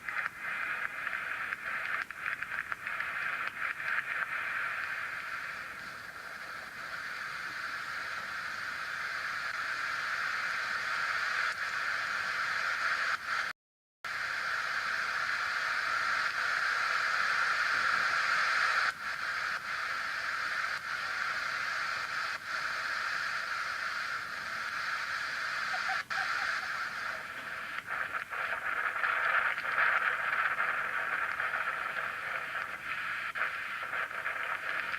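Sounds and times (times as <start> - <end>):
steady hissing noise: 0.0 - 13.5, 14.1 - 34.9.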